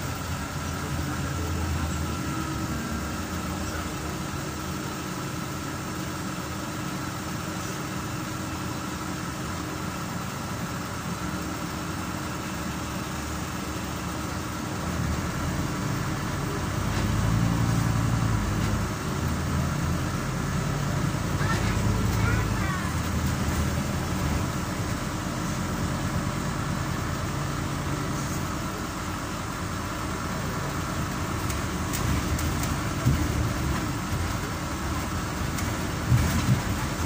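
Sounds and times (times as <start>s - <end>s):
bus engine hum: 0.0s - 37.0s
road noise: 0.0s - 37.0s.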